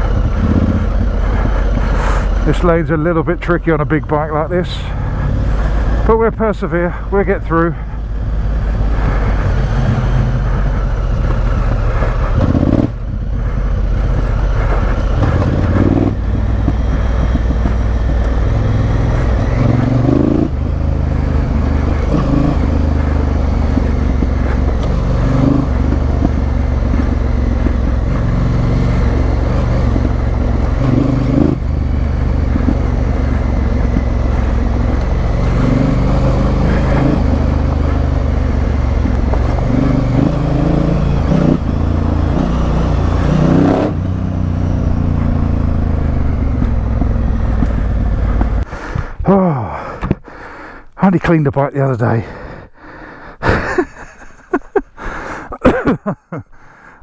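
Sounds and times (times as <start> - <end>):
motorcycle engine revving: 0.0 - 51.3.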